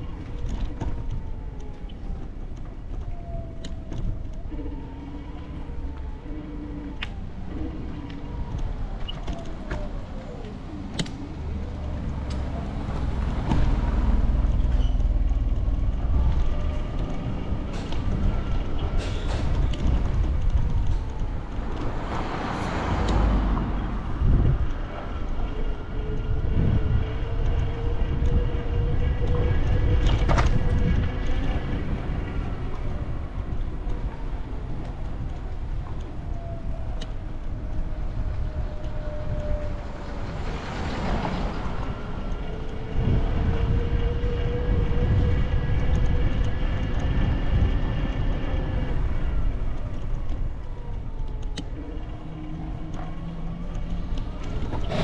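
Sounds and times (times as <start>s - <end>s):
street traffic engines: 0.0s - 55.0s
vehicles passing: 0.0s - 55.0s.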